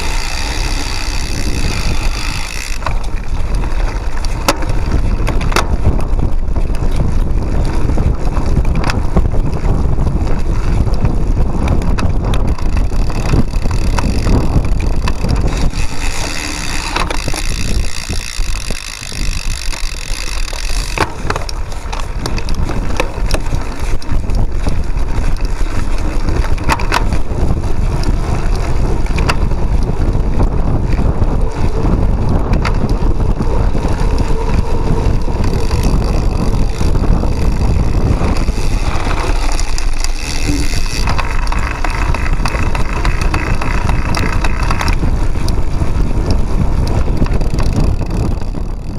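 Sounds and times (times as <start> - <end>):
bike rattling over bumps: 0.0 - 48.9
wind rumble on microphone: 0.0 - 48.9.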